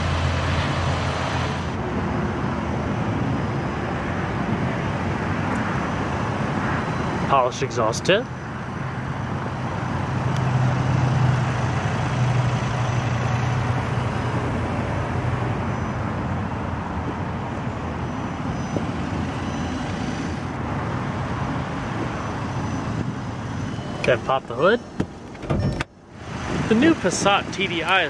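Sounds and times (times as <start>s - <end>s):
outdoor noise: 0.0s - 28.0s.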